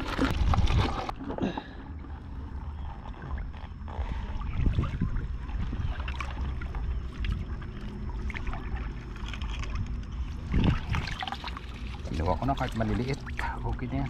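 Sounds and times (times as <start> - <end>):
low microphone rumble: 0.0 - 14.0
seawater sloshing among rocks: 0.0 - 14.0.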